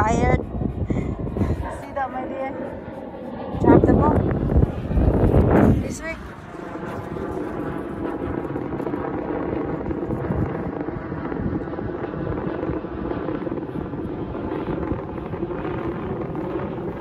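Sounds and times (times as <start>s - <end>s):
faint droning hum: 0.0s - 17.0s
low engine rumble: 0.0s - 17.0s.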